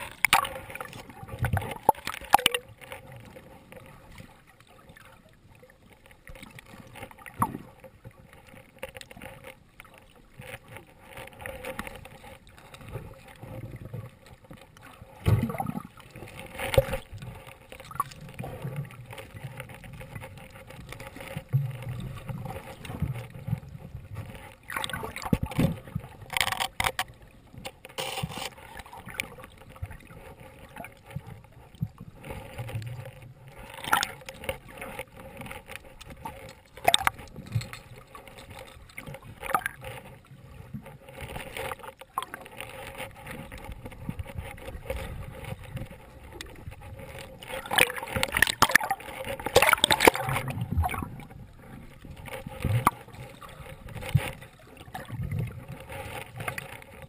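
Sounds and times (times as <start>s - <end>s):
underwater clicks and crackles: 0.0s - 57.0s
water moving underwater: 0.0s - 57.0s.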